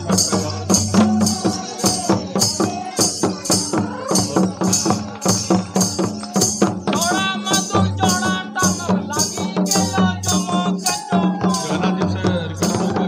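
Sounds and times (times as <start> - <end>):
barrel drums beaten: 0.0 - 13.0
voices singing: 0.0 - 13.0.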